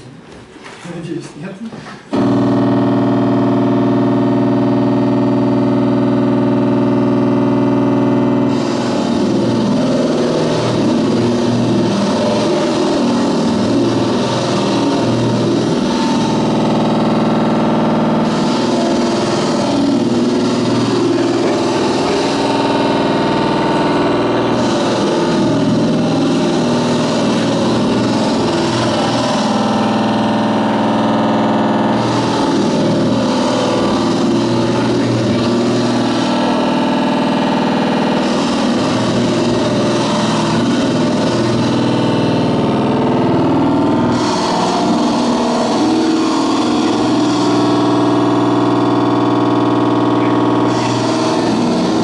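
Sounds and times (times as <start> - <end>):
distorted electronic noise: 2.1 - 52.0
steady pitched drone: 2.1 - 52.0
stuttering low rumble: 2.1 - 52.0.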